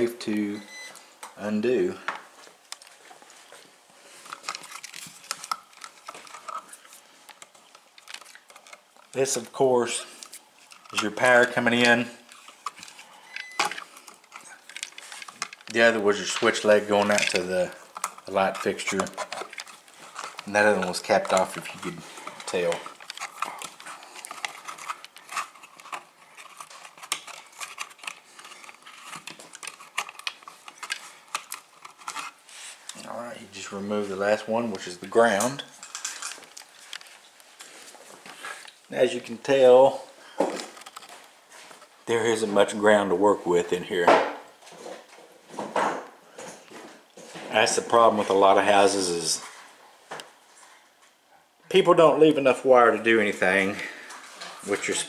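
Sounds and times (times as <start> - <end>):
wires clicking and rustling: 1.0 - 45.7.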